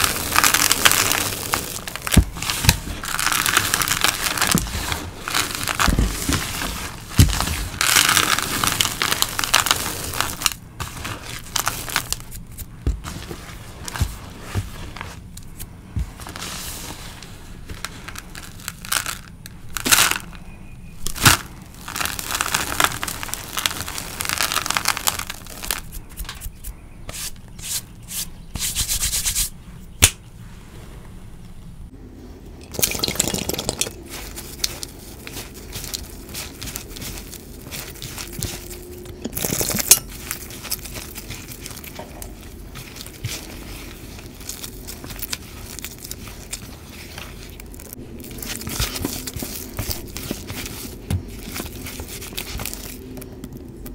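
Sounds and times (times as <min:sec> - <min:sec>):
hand crunching dry chalk crumbs: 0:00.0 - 0:20.4, 0:21.0 - 0:30.2, 0:32.8 - 0:53.9.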